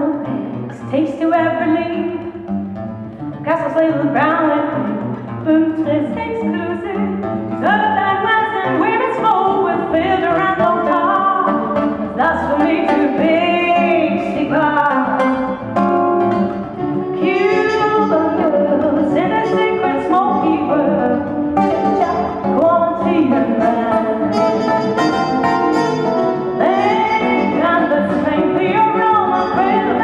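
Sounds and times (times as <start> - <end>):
woman singing: 0.0 - 2.3, 3.4 - 15.5, 17.2 - 24.8, 26.6 - 30.0
acoustic guitar: 0.0 - 30.0.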